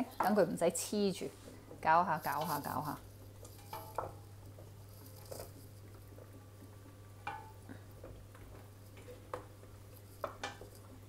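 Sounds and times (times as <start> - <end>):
pasta squishing when stirred: 0.0 - 11.0.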